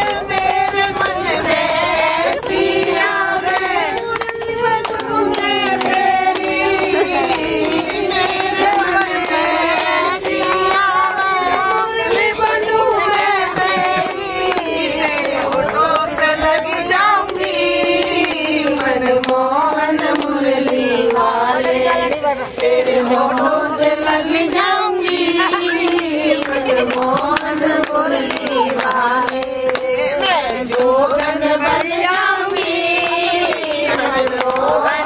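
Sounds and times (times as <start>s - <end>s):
hand clapping: 0.0s - 35.0s
women chanting in unison: 0.0s - 35.0s.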